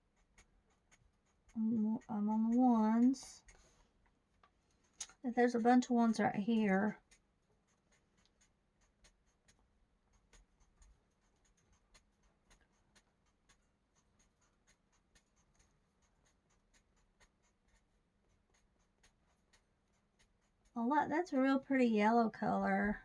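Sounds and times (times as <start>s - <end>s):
marker scratching on paper: 0.0s - 3.8s, 4.8s - 21.5s.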